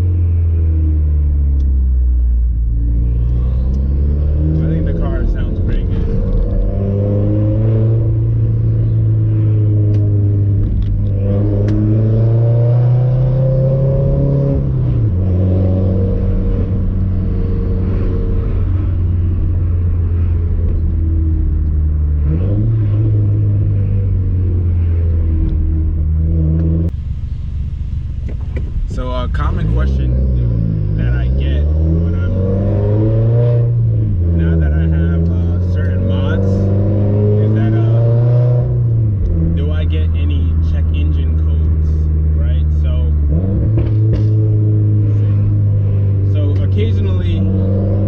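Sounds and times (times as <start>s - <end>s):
car exhaust accelerating: 0.0s - 48.0s.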